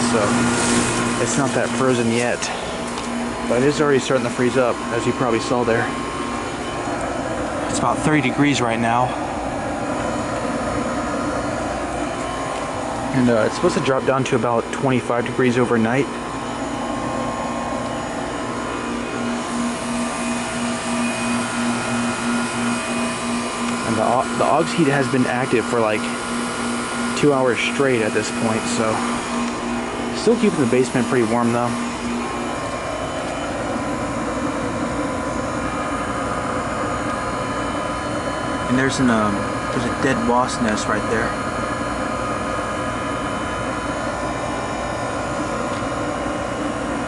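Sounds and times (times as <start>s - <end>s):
heat pump fan and compressor: 0.0s - 47.0s
pulsing low hum: 0.0s - 47.0s.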